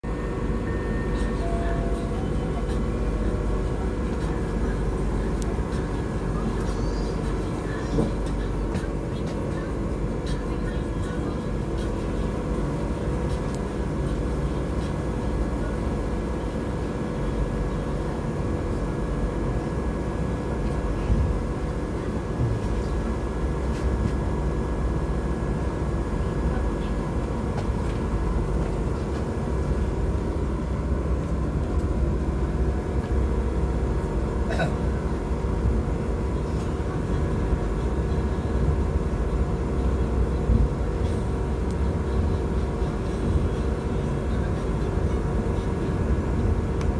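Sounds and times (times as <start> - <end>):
train wheels rumbling on rails: 0.4 - 46.9.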